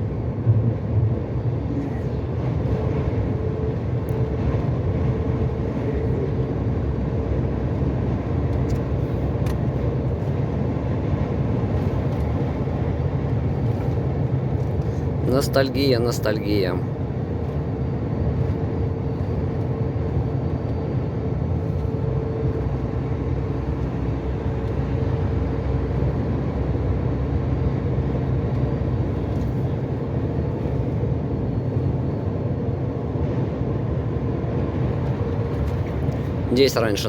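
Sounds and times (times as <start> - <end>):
truck engine and road noise: 0.0 - 37.0.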